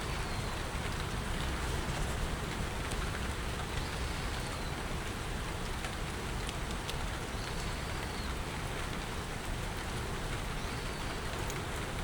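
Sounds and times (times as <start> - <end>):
raindrops ticking nearby: 0.0 - 12.0
steady rainfall hiss: 0.0 - 12.0.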